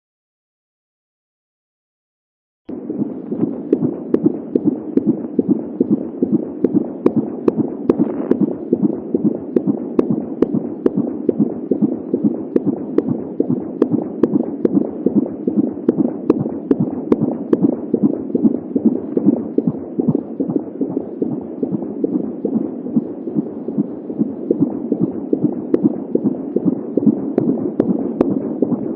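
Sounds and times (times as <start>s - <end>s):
fast whooshing heartbeat pulse: 2.7s - 28.9s.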